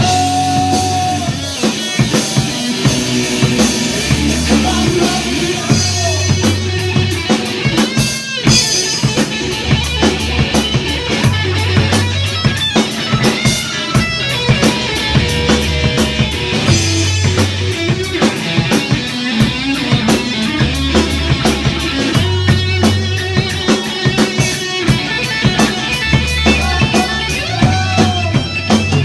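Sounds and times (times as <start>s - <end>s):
drum kit with cymbal hits: 0.0s - 29.0s
rock music: 0.0s - 29.0s.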